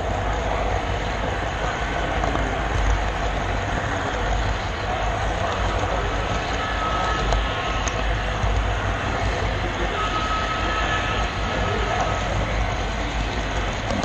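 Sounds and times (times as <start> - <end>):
wheels rumbling and rattling on rails: 0.0 - 14.0.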